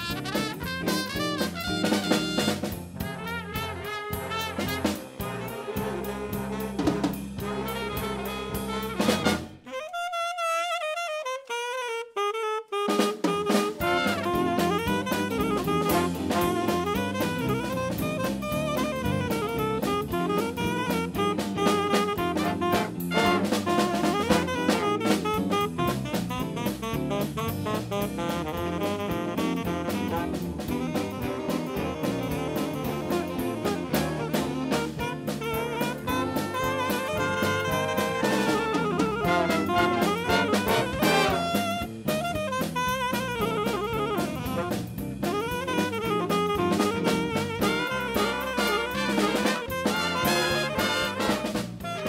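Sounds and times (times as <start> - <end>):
drum kit beat: 0.0 - 9.8, 12.8 - 52.0
horn melody: 0.0 - 52.0.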